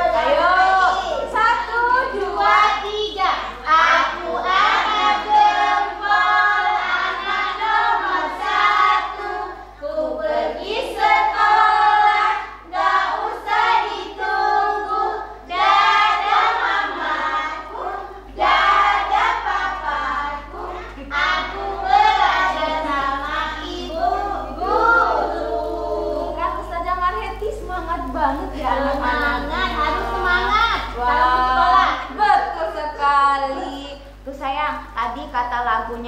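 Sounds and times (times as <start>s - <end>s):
women and children singing: 0.0s - 34.5s.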